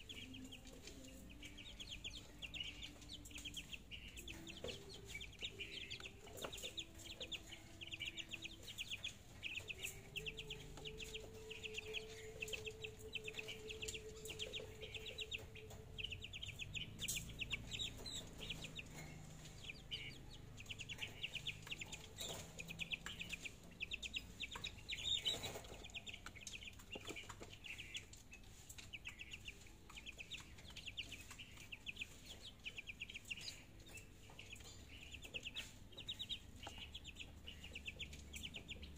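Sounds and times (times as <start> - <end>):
chicks peeping and clucking: 0.0 - 38.9.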